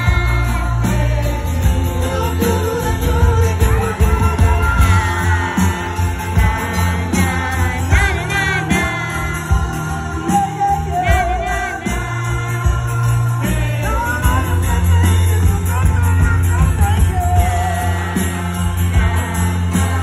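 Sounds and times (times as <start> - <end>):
lead singer singing: 0.0 - 20.0
live band playing: 0.0 - 20.0.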